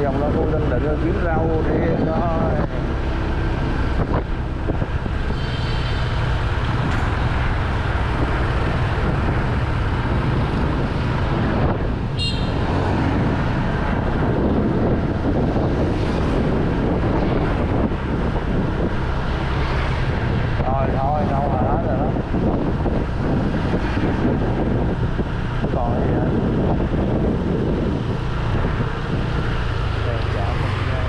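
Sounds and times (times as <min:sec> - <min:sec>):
road noise: 0:00.0 - 0:31.0
wind on microphone: 0:00.0 - 0:31.0.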